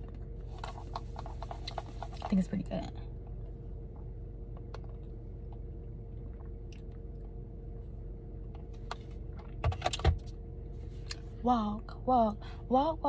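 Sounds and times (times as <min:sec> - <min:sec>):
car interior hum: 0:00.0 - 0:13.0.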